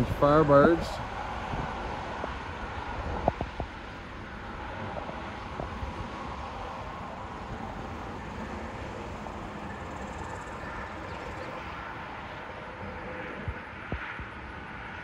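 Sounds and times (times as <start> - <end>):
outdoor background hum: 0.0 - 15.0
wind rumbling on microphone: 0.0 - 15.0.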